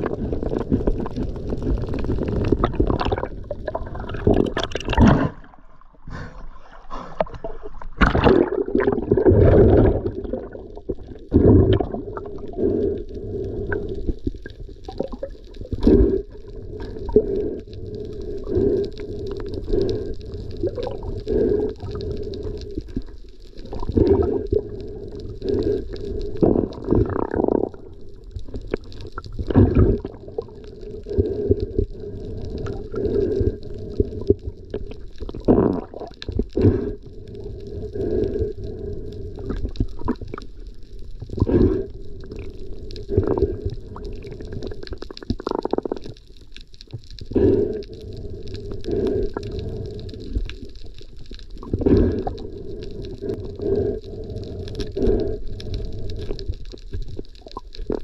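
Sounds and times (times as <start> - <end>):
underwater rumbling and gurgling: 0.0 - 58.0.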